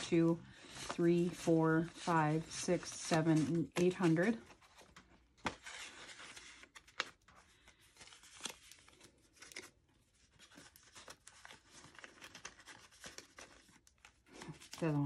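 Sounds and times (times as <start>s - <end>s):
paper banknotes rustling: 0.0s - 15.0s.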